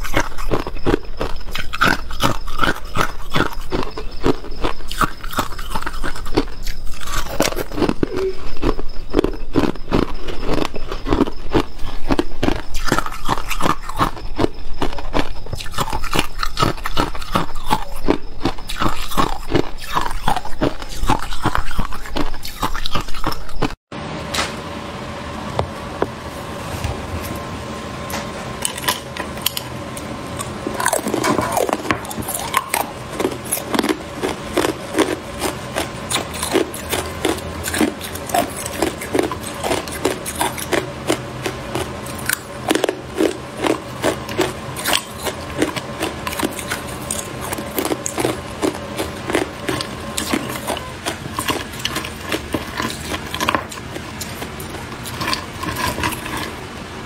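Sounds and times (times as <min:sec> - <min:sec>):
ice cubes being chewed: 0:00.0 - 0:23.8, 0:28.6 - 0:29.7, 0:30.4 - 0:56.6.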